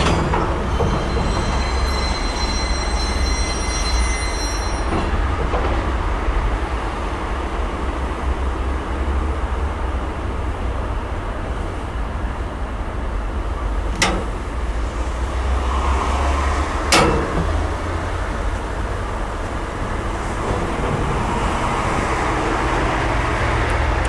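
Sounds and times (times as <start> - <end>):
steam train rumbling: 0.0 - 24.0.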